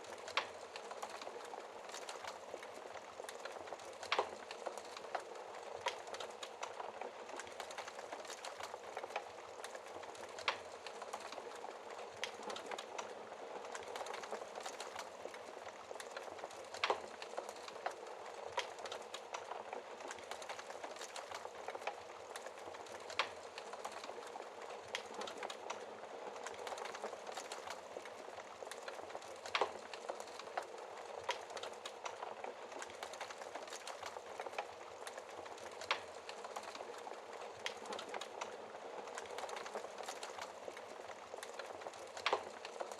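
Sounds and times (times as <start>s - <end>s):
fire popping: 0.0s - 42.9s
wood fire crackling: 0.0s - 42.9s.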